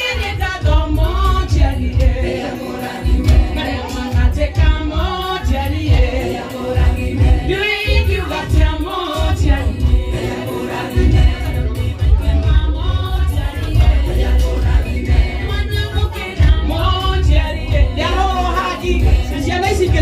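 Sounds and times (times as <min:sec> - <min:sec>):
women singing: 0:00.0 - 0:20.0
pulsing bass beat: 0:00.2 - 0:20.0.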